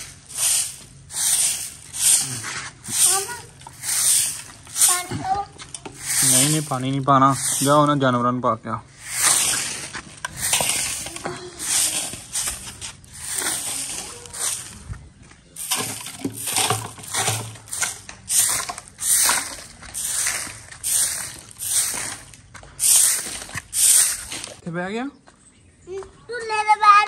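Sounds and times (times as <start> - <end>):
stick broom sweeping brick ground: 0.0 - 24.6.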